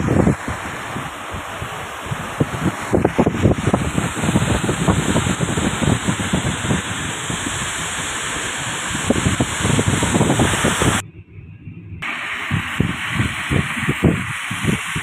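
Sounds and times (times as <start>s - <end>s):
wind and rain rushing: 0.0s - 11.0s, 12.0s - 15.0s
wind buffeting microphone: 0.0s - 15.0s.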